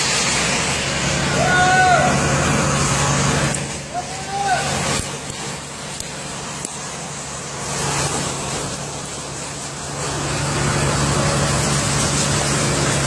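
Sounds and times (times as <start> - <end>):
street traffic: 0.0 - 13.0
truck engine humming: 0.0 - 13.0.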